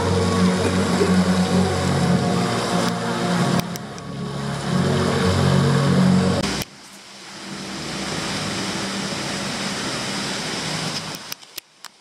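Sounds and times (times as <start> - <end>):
low hum: 0.0 - 11.4
water pouring down fountain: 0.0 - 12.0.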